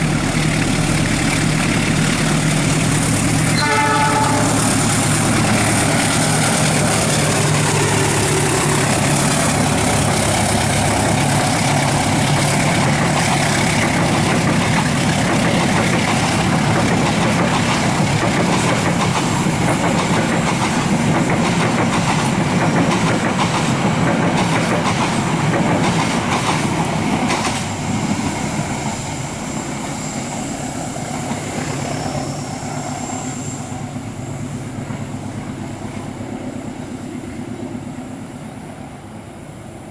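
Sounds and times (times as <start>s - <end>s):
train wheels clattering: 0.2s - 33.1s.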